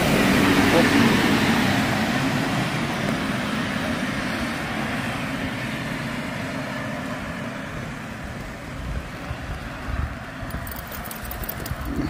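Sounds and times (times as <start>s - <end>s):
tyres hissing on wet road: 0.0s - 10.5s.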